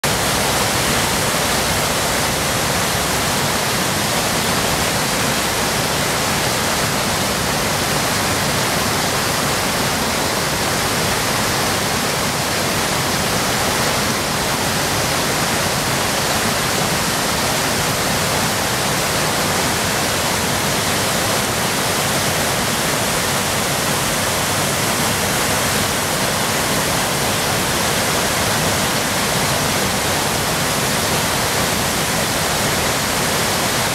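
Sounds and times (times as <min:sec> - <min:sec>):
waterfall crashing into pool: 0:00.0 - 0:33.9.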